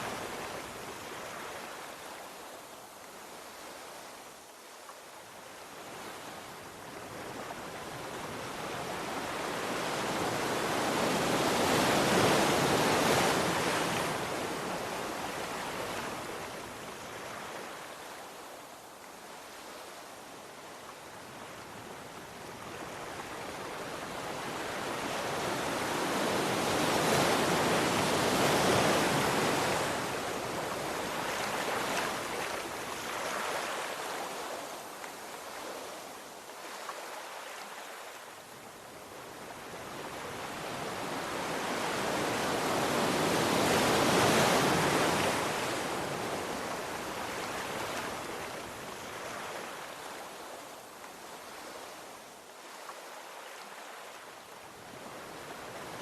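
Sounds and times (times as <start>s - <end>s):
sea waves breaking on shore: 5.8s - 20.4s, 22.4s - 56.0s.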